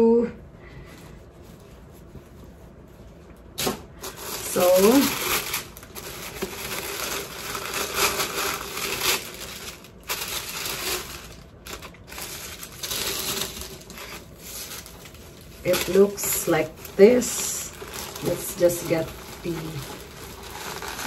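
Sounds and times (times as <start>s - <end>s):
tissue paper rustling: 0.8s - 21.0s.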